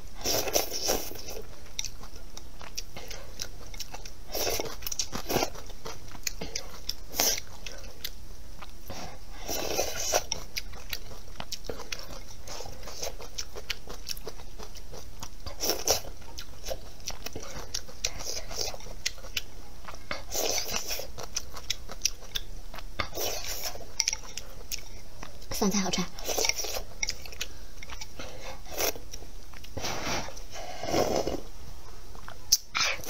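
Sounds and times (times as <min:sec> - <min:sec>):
person chewing noodles: 0:00.2 - 0:31.5.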